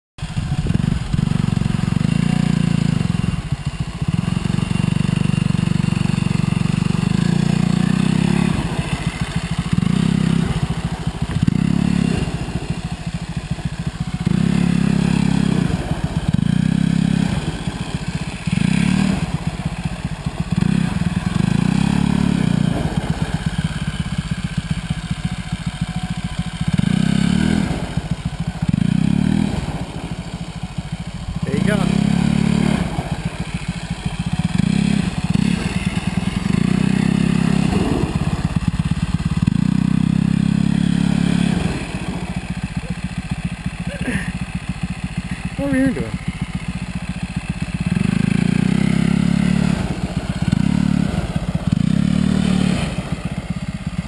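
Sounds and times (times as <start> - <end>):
quad engine revving: 0.2 - 54.0.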